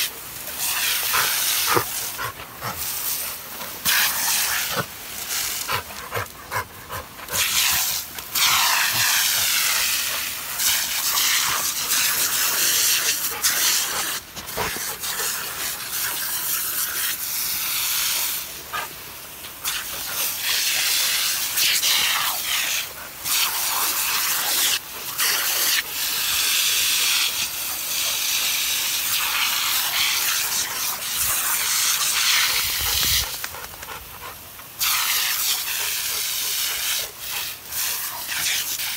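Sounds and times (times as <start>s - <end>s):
lawn sprinkler hissing: 0.0s - 38.9s.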